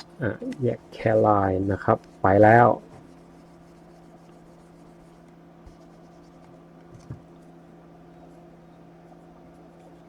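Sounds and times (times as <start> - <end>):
quiet background hum: 0.0 - 10.0.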